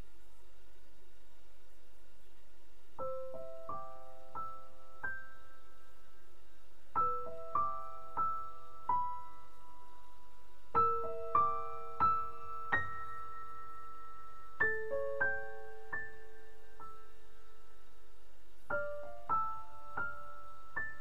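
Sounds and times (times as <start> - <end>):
slow solo piano: 3.0 - 21.0.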